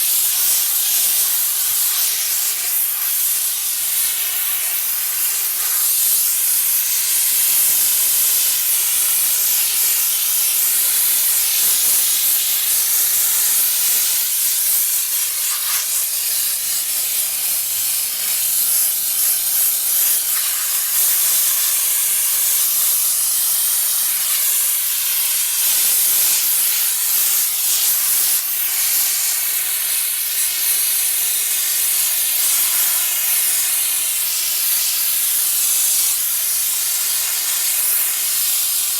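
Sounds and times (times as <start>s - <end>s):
steam jet hissing: 0.0s - 38.9s.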